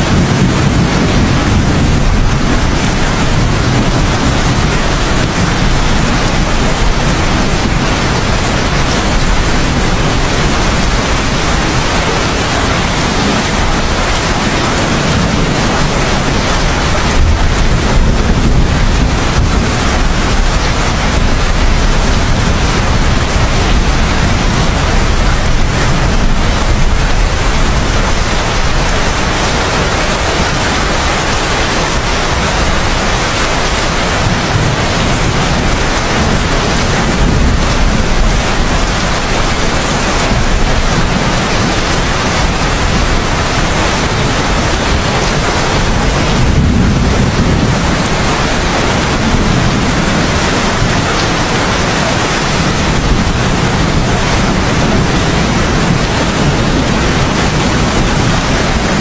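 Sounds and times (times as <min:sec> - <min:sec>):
heavy rain hissing: 0:00.0 - 0:59.0
low rumble of thunder: 0:00.0 - 0:59.0.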